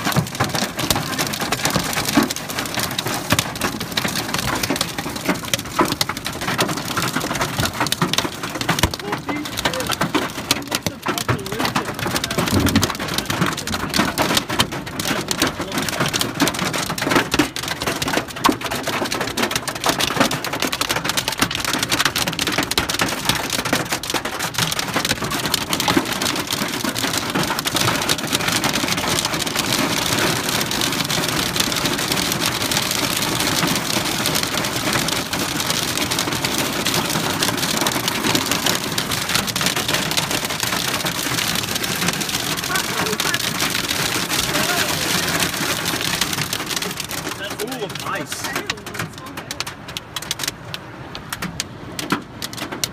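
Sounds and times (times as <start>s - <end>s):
hail and rain on car roof: 0.0s - 52.9s.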